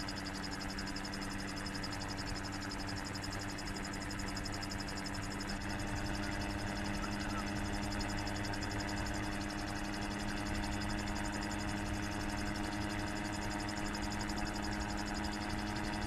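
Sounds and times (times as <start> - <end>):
insects trilling: 0.0 - 16.0
steady low hum: 0.0 - 16.0.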